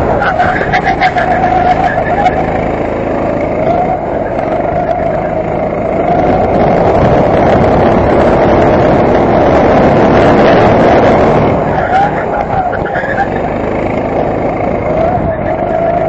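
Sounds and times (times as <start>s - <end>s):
go-kart engine racing: 0.0s - 16.0s.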